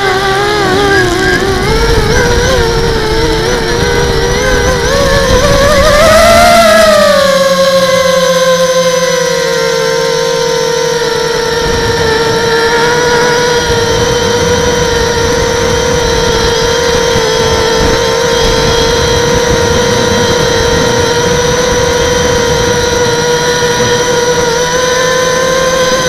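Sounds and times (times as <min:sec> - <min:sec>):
low rough rumble: 0:00.0 - 0:09.0, 0:10.8 - 0:26.0
quadcopter motors whining: 0:00.0 - 0:26.0.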